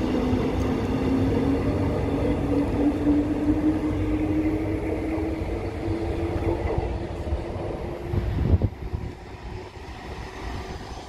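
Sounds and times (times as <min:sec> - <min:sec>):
electric train motors whining: 0:00.0 - 0:11.0.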